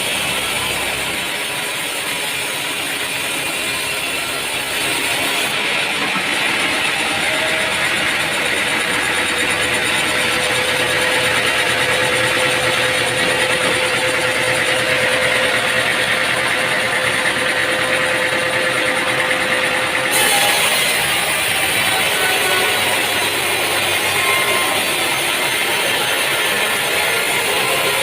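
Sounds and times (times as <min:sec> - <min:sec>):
heavy machinery running: 0:00.0 - 0:28.0.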